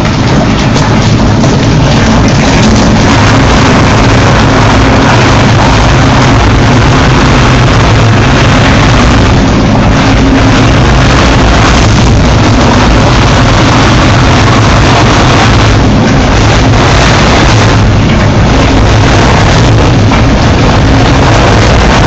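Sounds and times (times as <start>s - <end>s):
grinder roaring: 0.0s - 22.0s.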